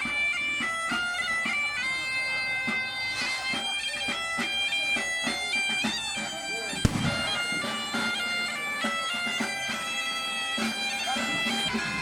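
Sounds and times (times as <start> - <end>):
bagpipe playing a tune: 0.0 - 12.0.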